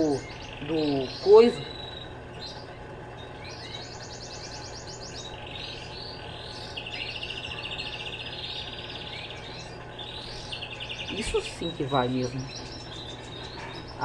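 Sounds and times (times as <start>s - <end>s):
birds singing high trills: 0.0s - 14.0s
steady low hum: 0.0s - 14.0s.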